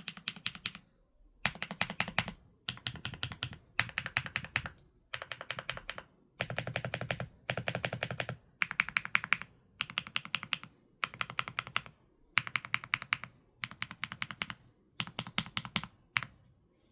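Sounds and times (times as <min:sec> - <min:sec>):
mechanical keyboard typing: 0:00.0 - 0:00.8, 0:01.4 - 0:16.4.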